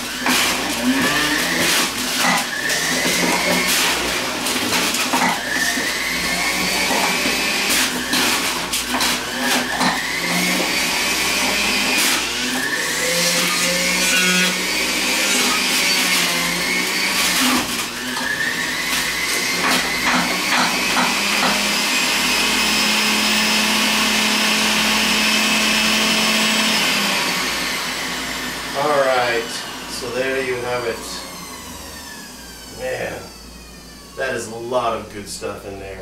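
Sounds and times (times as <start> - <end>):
juicer motor whining: 0.0 - 34.4.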